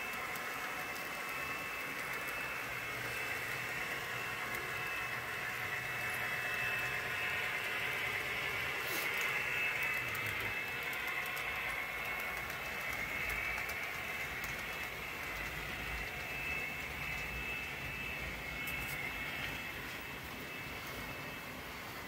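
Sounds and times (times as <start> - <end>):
model train motors whirring: 0.0 - 22.0
wheels rolling on rails: 0.0 - 22.0.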